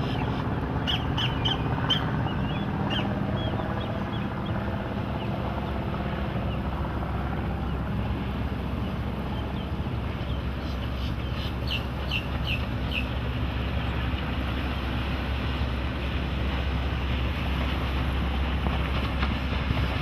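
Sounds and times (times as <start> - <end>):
boat engines droning: 0.0 - 20.0
water wash: 0.0 - 20.0
wind: 0.0 - 20.0.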